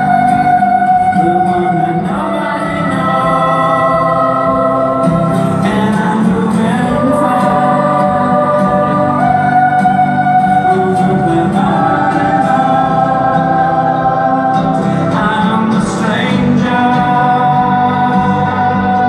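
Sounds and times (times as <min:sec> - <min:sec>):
children's choir singing: 0:00.0 - 0:19.0.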